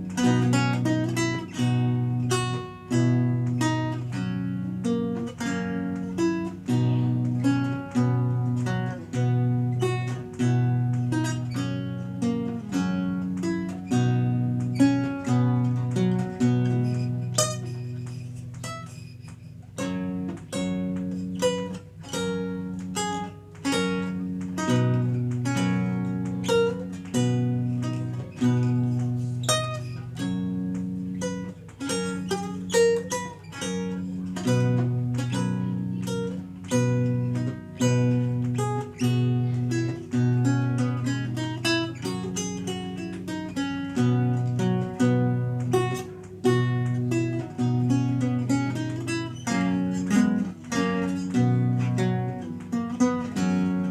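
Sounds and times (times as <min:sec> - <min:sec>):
solo lute playing: 0:00.0 - 0:53.9.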